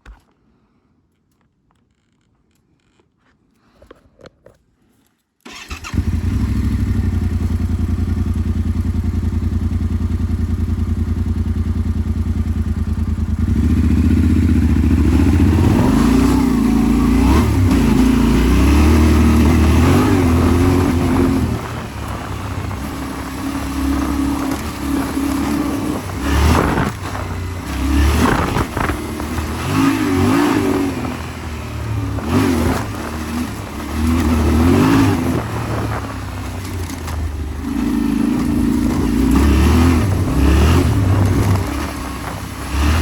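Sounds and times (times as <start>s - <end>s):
motorcycle engine idling and revving: 5.5s - 43.0s.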